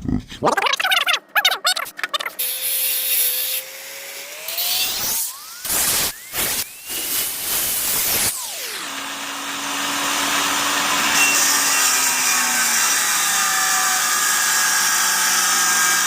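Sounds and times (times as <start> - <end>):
power tool running with hiss: 2.4 - 16.0.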